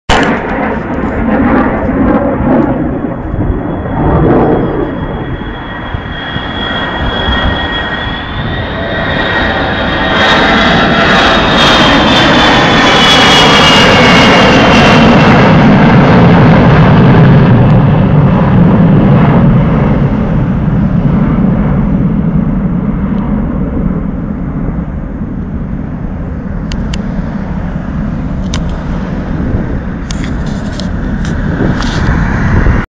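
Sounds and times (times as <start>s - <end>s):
jet flying overhead: 0.1s - 32.9s.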